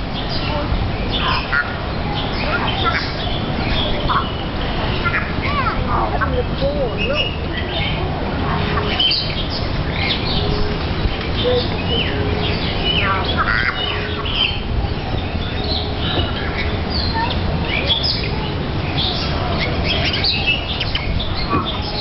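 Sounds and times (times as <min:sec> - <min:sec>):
birds chirping and squawking: 0:00.0 - 0:22.0.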